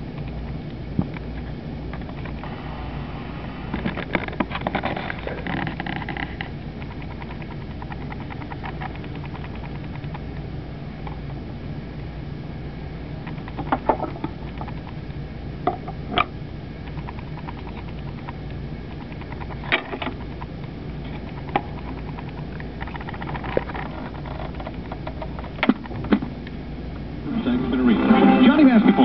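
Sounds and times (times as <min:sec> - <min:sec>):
low hum and hiss: 0:00.0 - 0:29.0.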